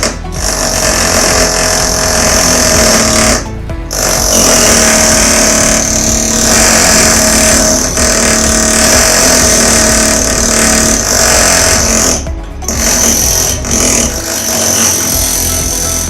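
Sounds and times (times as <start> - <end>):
power tool motor whining: 0.0 - 16.0.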